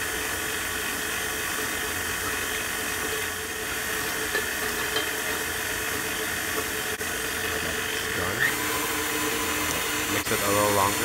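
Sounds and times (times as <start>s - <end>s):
stand mixer motor humming: 0.0s - 11.0s.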